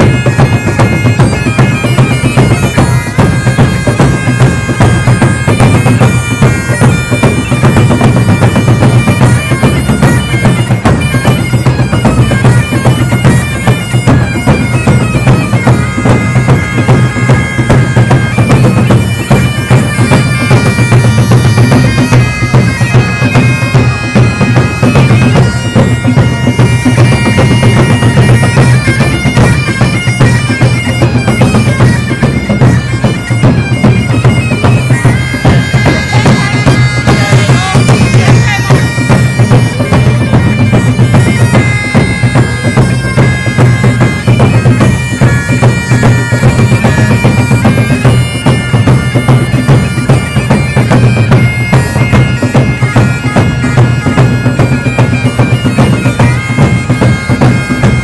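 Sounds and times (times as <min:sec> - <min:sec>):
bagpipes playing: 0:00.0 - 0:58.0
large drums beating: 0:00.0 - 0:58.0.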